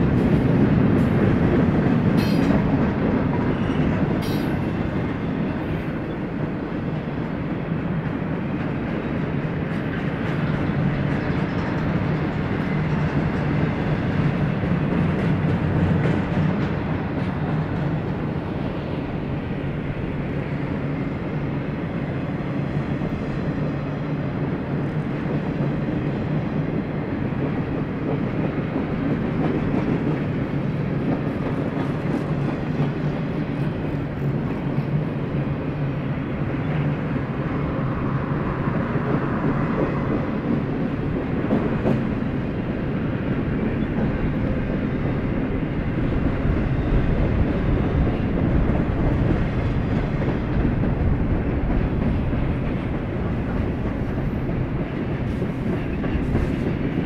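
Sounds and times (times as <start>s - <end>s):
freight train wheels rumbling on rail: 0.0s - 57.0s.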